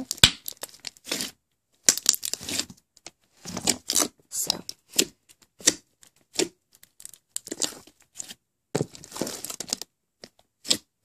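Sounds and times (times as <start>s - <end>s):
slime squishing by hand: 0.0s - 11.0s.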